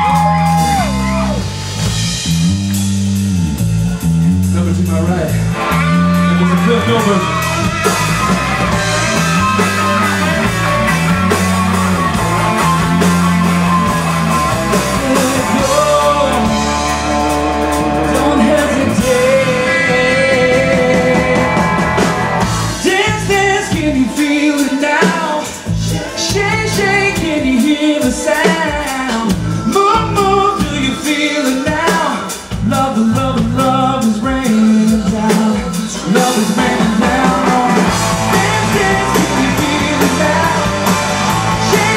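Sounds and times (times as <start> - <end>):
strong bass notes: 0.0 - 24.4, 32.5 - 41.9
pop-rock band playing loudly: 0.0 - 41.9.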